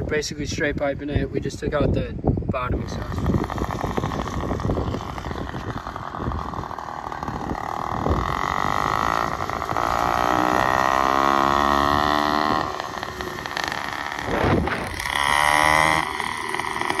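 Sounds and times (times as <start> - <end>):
motorized bike engine buzzing: 2.8 - 17.0.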